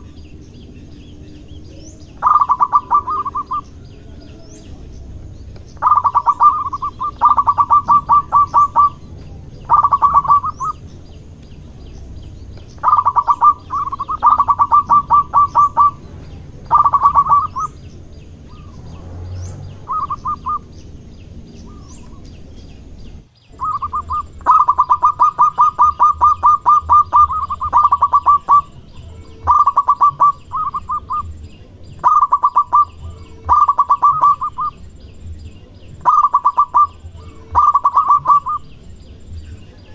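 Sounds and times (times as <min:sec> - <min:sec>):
dove staccato cooing: 0:00.0 - 0:21.0, 0:21.6 - 0:35.3, 0:35.9 - 0:39.9.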